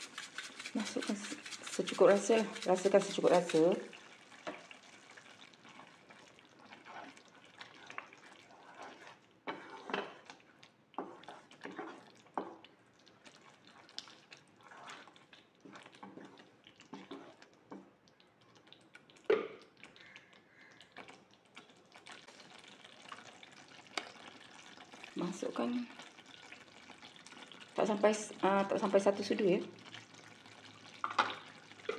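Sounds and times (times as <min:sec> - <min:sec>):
wooden spatula stirring: 0:00.0 - 0:20.1, 0:20.8 - 0:31.9
sauce bubbling and popping in oil: 0:00.0 - 0:31.9.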